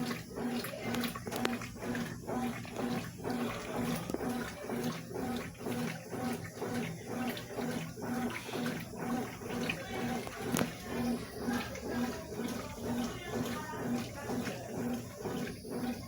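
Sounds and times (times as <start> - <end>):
washing machine motor humming: 0.0 - 16.0
water sloshing in tub: 0.0 - 16.0.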